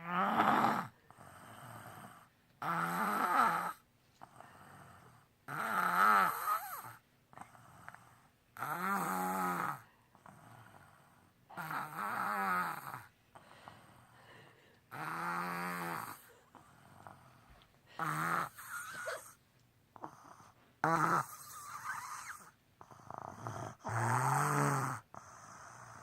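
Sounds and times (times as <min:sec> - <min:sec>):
girl snoring: 0:00.0 - 0:14.2, 0:14.9 - 0:17.3, 0:18.0 - 0:19.4, 0:20.0 - 0:26.0.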